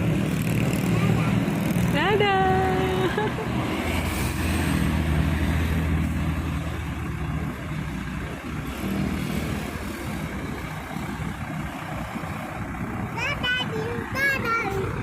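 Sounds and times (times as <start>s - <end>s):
bus engine rumbling past: 0.0s - 15.0s.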